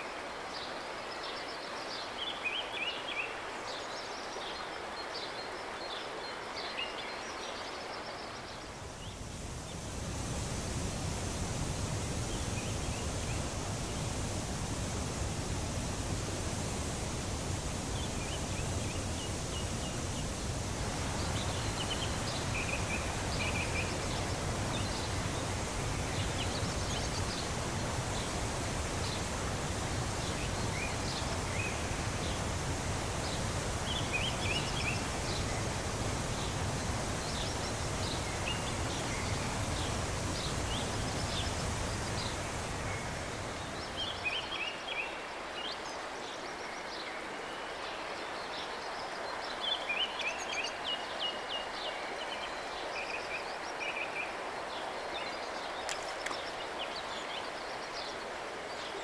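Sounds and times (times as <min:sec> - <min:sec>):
river water rushing over rocks: 0:00.0 - 0:59.0
songbirds chirping: 0:00.0 - 0:59.0.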